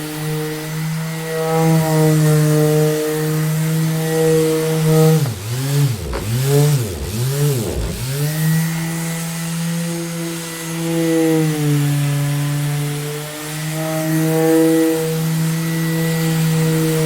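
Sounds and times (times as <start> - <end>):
electric orbital sander running: 0.0 - 17.0.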